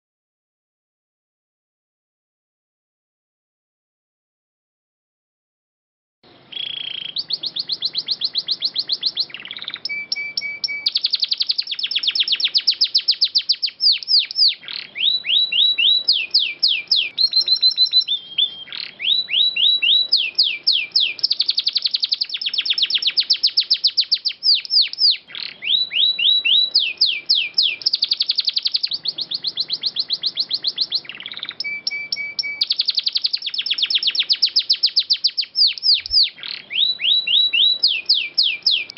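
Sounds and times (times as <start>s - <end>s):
canary singing trills: 6.3s - 38.9s.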